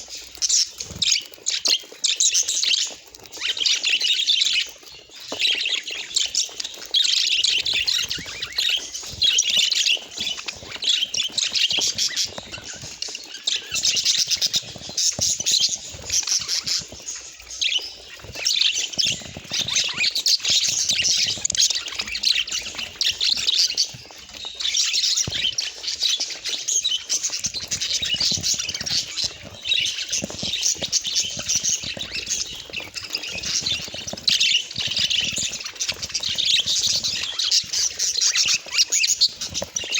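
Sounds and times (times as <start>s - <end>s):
budgerigars chattering: 7.0s - 39.9s.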